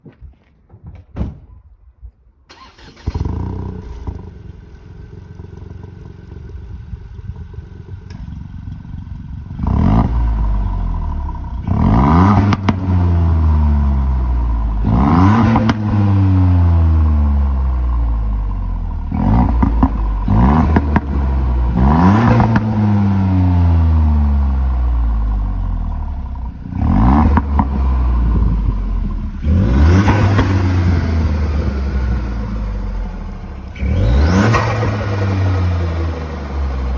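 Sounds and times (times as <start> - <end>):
car engine idling and revving: 2.5 - 36.9.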